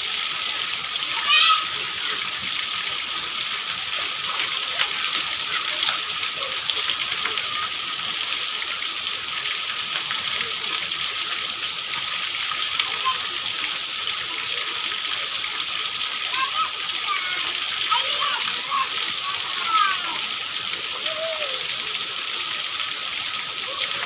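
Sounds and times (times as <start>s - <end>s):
rain on pavement: 0.0s - 24.0s.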